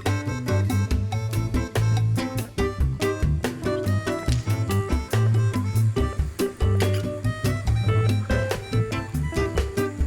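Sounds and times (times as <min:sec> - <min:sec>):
upbeat music with plucked guitar: 0:00.0 - 0:10.0.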